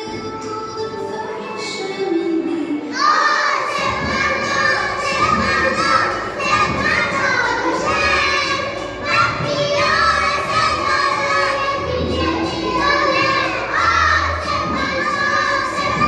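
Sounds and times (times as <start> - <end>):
children talking and shouting: 0.0 - 16.0.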